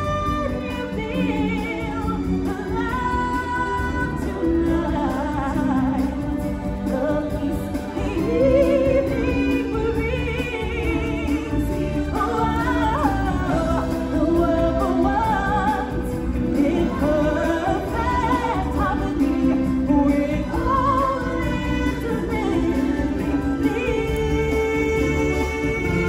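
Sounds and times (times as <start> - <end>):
full band accompaniment: 0.0 - 26.0.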